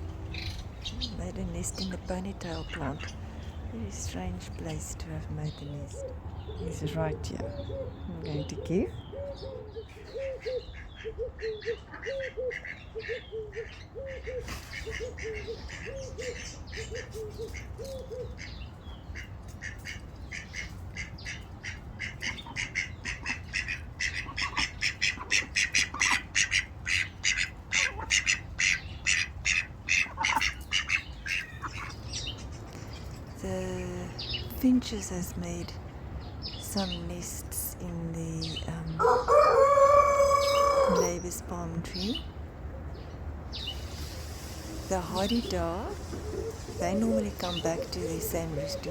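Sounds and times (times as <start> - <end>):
birds calling: 0.0 - 48.9
birds squawking harshly: 5.5 - 34.5, 38.4 - 48.9.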